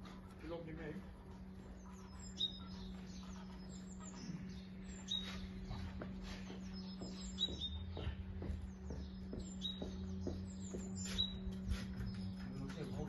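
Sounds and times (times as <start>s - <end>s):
low hum: 0.0s - 13.0s
songbirds chirping: 0.0s - 13.0s.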